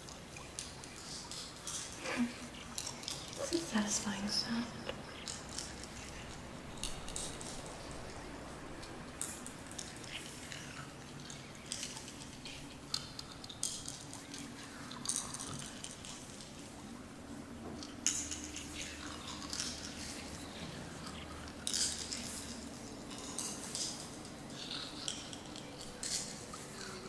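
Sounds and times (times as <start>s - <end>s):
low background ambience: 0.0s - 27.0s.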